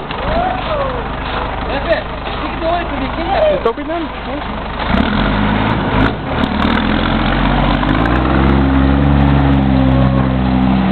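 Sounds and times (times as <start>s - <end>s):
truck diesel engine running: 0.0s - 10.9s.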